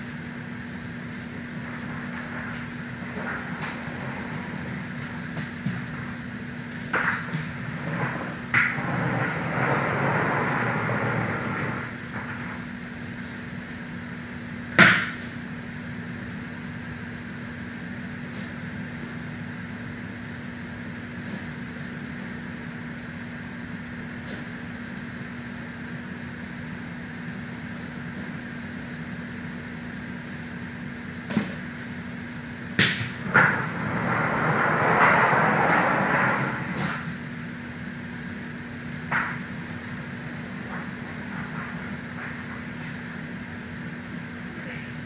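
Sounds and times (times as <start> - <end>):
room hum and hiss: 0.0 - 45.0.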